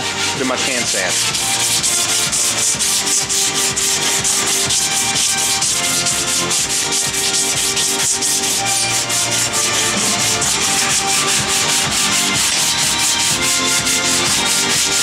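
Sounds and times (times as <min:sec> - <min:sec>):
sandpaper rubbing back and forth: 0:00.0 - 0:15.0.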